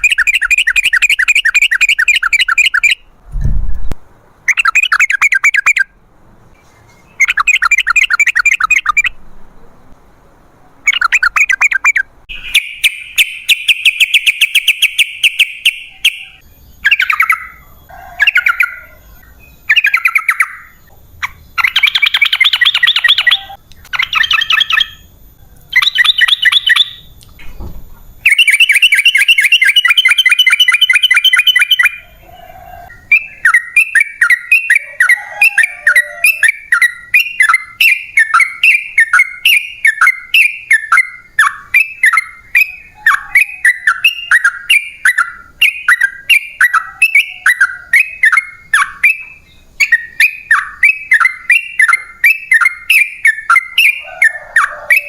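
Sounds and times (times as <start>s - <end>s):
bird chattering song: 0.0s - 3.2s, 3.8s - 6.0s, 6.8s - 9.8s, 10.8s - 27.3s, 28.2s - 55.0s.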